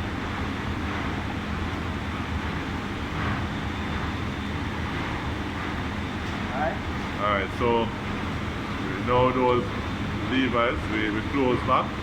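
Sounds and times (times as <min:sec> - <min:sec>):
low hum of background machinery: 0:00.0 - 0:12.0.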